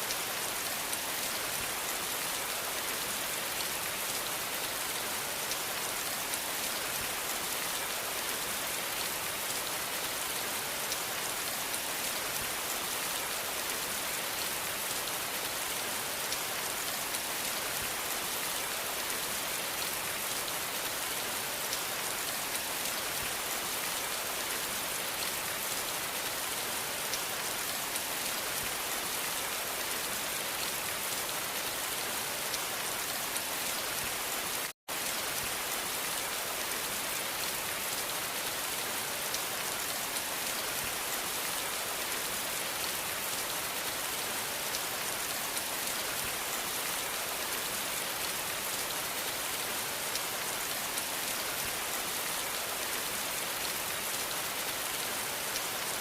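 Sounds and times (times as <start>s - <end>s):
rain falling on a surface: 0.0s - 56.0s.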